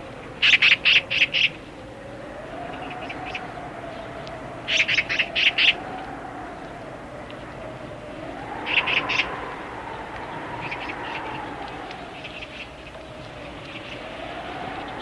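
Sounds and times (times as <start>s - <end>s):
strong wind moaning: 0.0s - 15.0s
bird calling in high notes: 2.6s - 15.0s.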